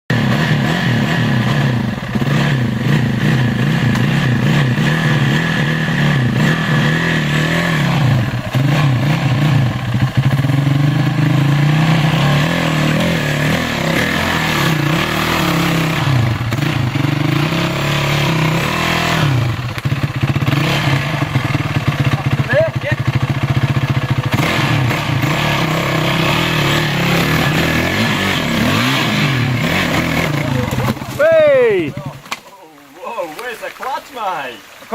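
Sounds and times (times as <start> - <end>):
dirt bike engine revving: 0.1 - 32.4.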